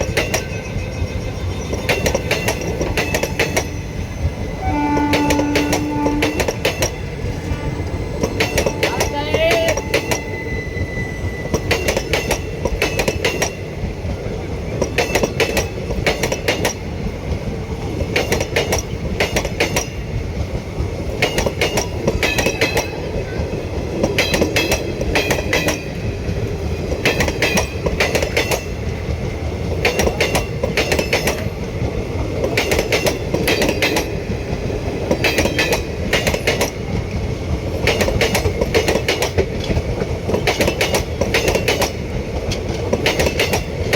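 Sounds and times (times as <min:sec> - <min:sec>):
train wheels clattering over rail joints: 0:00.0 - 0:10.2, 0:11.4 - 0:43.9
train rolling rumble: 0:00.0 - 0:43.9.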